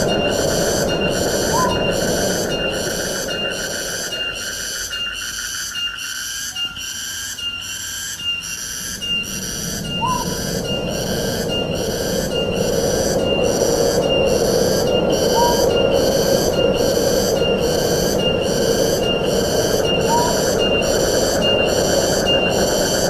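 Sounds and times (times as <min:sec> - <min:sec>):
high-pitched pulsing call: 0:00.0 - 0:05.0, 0:06.5 - 0:10.9, 0:13.1 - 0:17.6, 0:18.2 - 0:23.0
wind rushing through trees: 0:00.0 - 0:06.5, 0:07.8 - 0:23.0.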